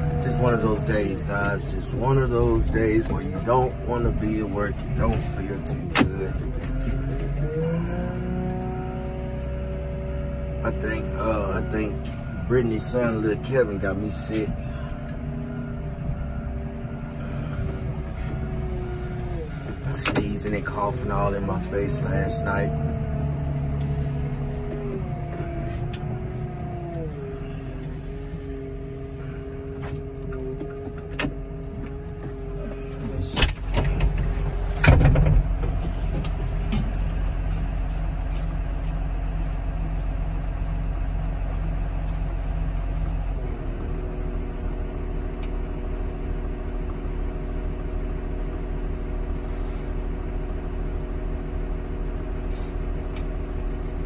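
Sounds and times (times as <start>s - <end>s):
heavy vehicle engine running: 0.0s - 54.0s.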